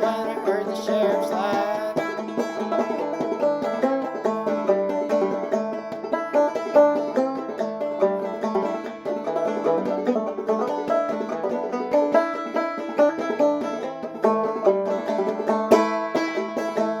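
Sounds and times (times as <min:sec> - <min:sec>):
banjo picking and strumming: 0:00.0 - 0:17.0
sharp loud banjo strum: 0:00.0 - 0:17.0.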